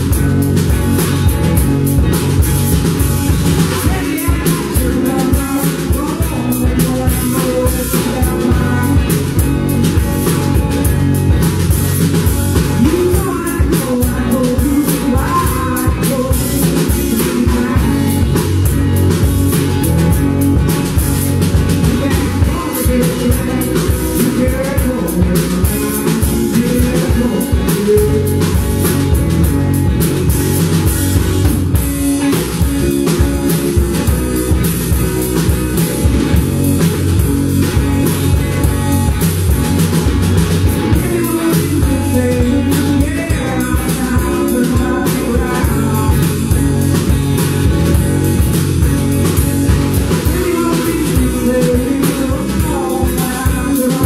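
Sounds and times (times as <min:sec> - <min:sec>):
live blues-rock band playing: 0:00.0 - 0:54.0.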